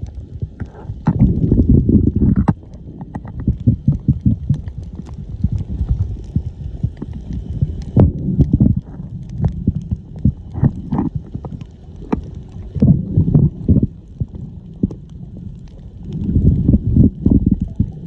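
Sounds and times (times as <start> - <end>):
muffled underwater water churning: 0.0 - 18.0.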